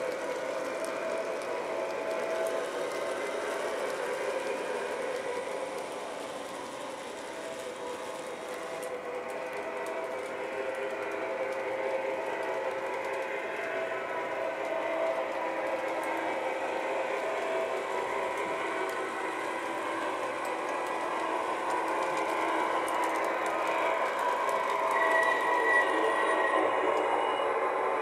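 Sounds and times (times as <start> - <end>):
model train motor running: 0.0 - 28.0.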